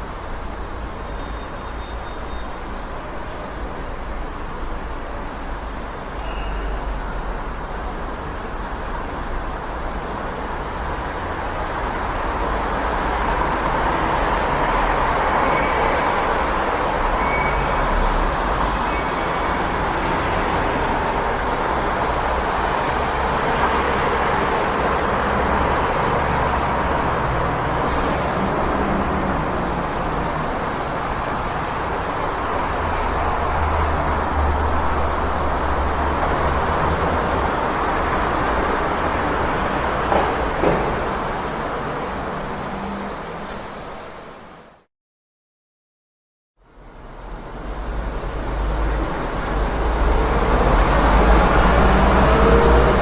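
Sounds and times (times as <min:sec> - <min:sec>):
passing vehicles: 0:00.0 - 0:44.9, 0:46.6 - 0:53.0.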